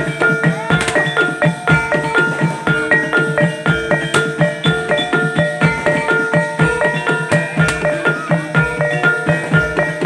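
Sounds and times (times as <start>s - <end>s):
tuned metal percussion ringing: 0.0s - 10.0s.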